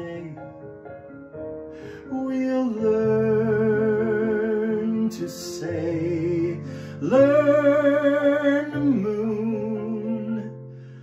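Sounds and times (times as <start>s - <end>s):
man singing with vibrato: 0.0s - 0.6s, 1.9s - 10.6s
recorded musical accompaniment: 0.0s - 11.0s.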